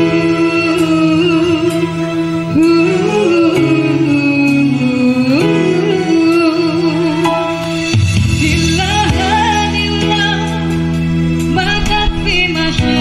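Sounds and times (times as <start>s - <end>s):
keyboard accompaniment: 0.0s - 13.0s
woman singing through microphone: 0.0s - 13.0s.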